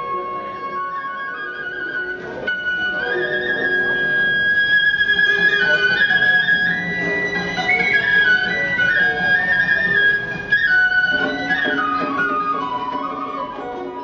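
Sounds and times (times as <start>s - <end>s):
traditional theatre music: 0.0s - 14.0s.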